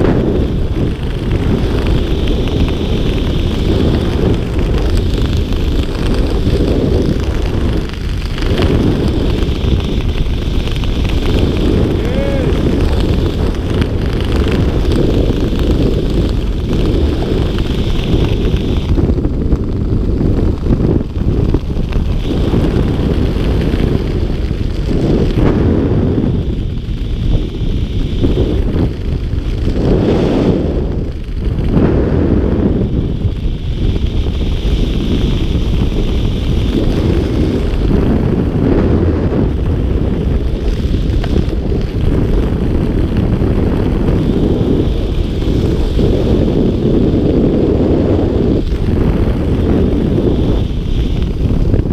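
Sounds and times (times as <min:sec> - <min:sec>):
loud wind buffeting microphone: 0:00.0 - 0:51.9.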